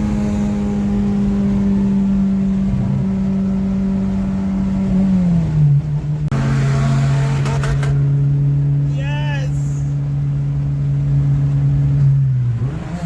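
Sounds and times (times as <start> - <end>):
car engine droning inside cabin: 0.0 - 13.0.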